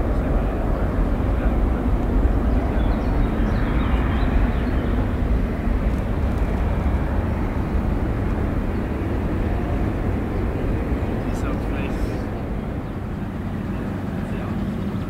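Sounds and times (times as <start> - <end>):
jet aircraft rumble: 0.0 - 15.0.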